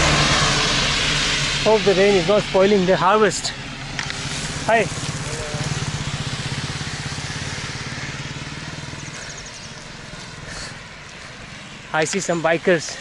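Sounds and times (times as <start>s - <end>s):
motorcycle passing by: 0.0s - 13.0s.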